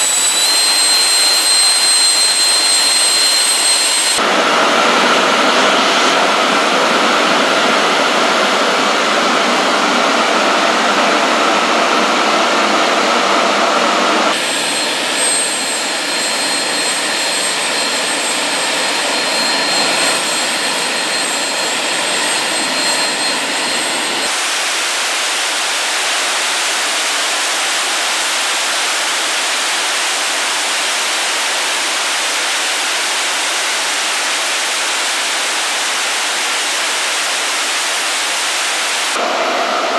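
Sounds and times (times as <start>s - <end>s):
gas turbine running: 0.0s - 39.9s.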